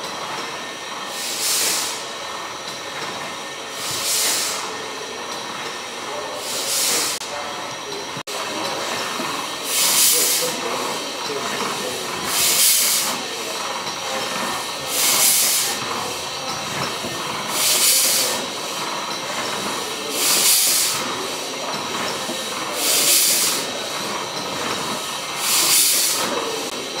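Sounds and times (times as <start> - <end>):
loud steam hiss: 0.0 - 27.0
steam engine running: 0.0 - 27.0.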